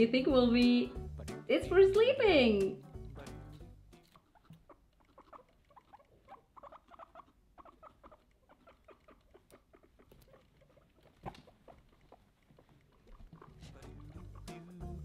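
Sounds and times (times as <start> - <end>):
guinea pigs squeaking: 0.0 - 15.0.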